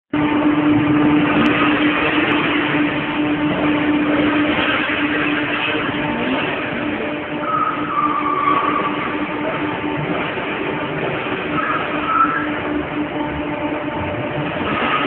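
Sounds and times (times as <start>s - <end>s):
car engine at steady revs: 0.2s - 15.0s.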